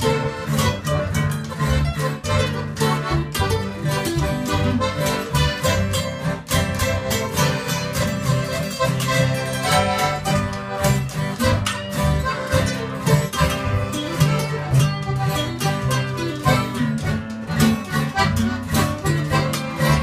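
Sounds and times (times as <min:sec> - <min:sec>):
button accordion: 0:00.0 - 0:20.0
strummed acoustic guitars: 0:00.0 - 0:20.0
upright bass line: 0:00.0 - 0:20.0.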